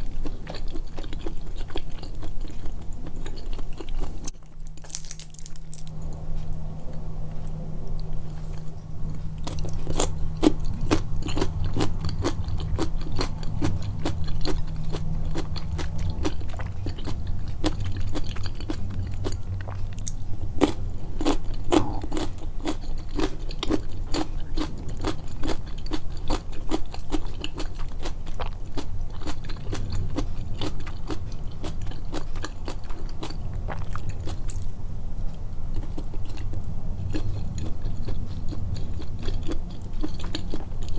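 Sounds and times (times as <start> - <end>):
low steady hum: 0.0 - 40.9
mouth chewing and biting food: 0.0 - 40.9.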